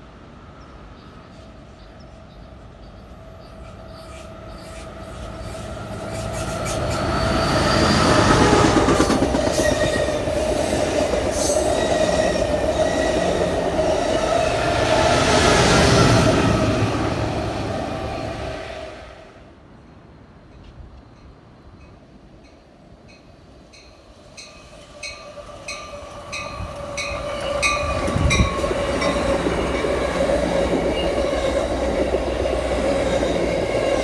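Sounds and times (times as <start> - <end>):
passenger train passing: 0.0 - 34.0
train wheels on rails: 0.3 - 19.3, 20.4 - 34.0.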